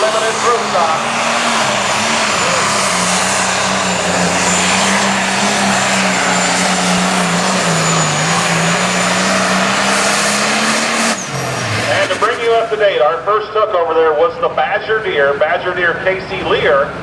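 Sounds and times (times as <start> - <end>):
diesel engine running flat out: 0.0 - 17.0.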